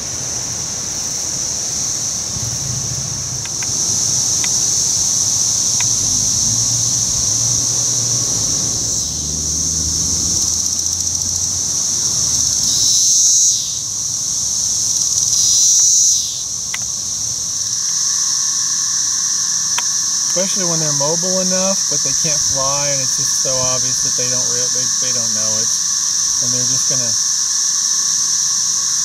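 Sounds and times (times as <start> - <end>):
cicadas droning: 0.0 - 29.0.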